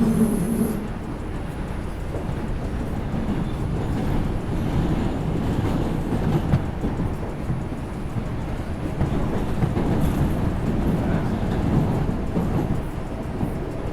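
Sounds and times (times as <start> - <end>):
subway wheels rumbling on track: 0.0 - 13.9.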